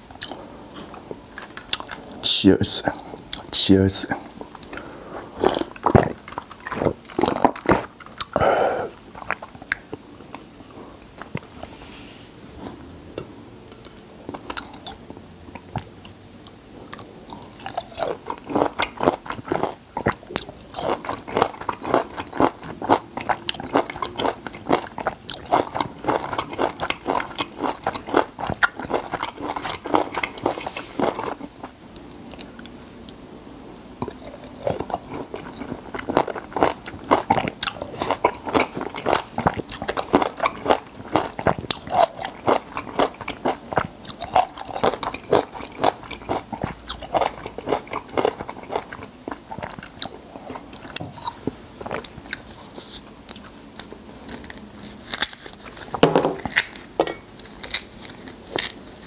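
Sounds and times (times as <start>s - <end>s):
man chewing juicy fruit: 0.0s - 33.2s, 33.9s - 59.0s.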